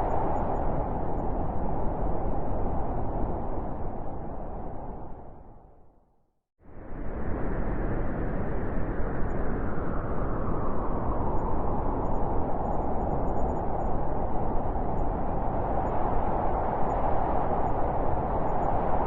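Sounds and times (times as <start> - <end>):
howling blizzard wind: 0.0 - 5.9, 6.6 - 19.0.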